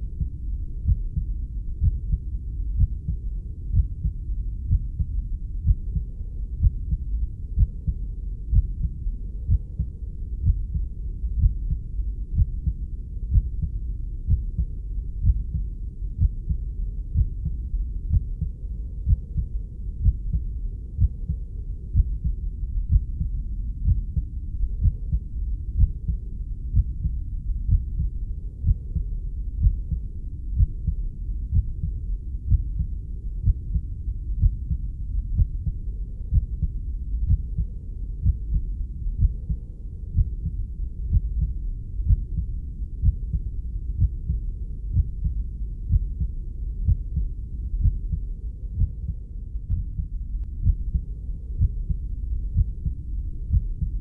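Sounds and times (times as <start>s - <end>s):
constant low whoosh: 0.0s - 54.0s
muffled heartbeat: 0.0s - 54.0s.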